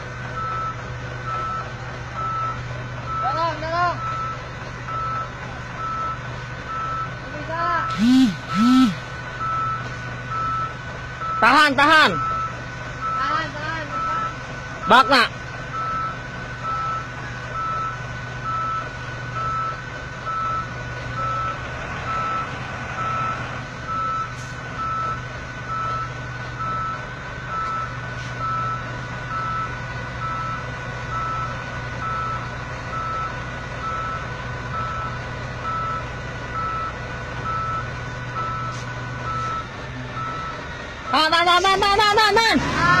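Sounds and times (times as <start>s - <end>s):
heavy engine running: 0.0s - 43.0s
vehicle reversing alarm beeping: 0.2s - 42.5s.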